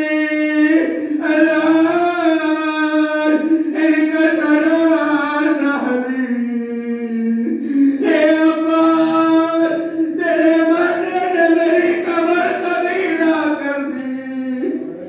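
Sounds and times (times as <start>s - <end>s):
man chanting a mournful lament: 0.0s - 15.0s.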